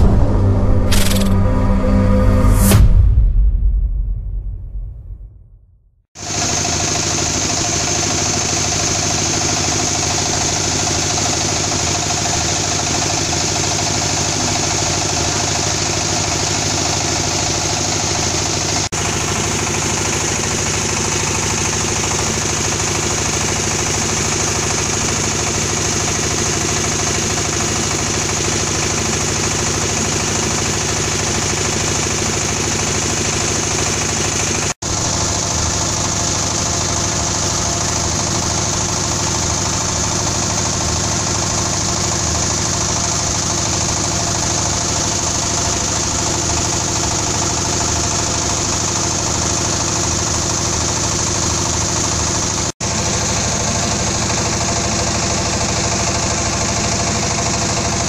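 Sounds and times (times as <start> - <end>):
diesel engine running steadily: 6.2 - 58.0.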